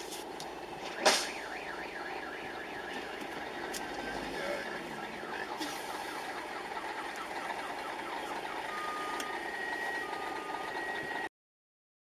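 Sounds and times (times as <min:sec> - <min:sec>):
traffic and engine noise: 0:00.0 - 0:11.3
electronic beeps: 0:01.0 - 0:11.3.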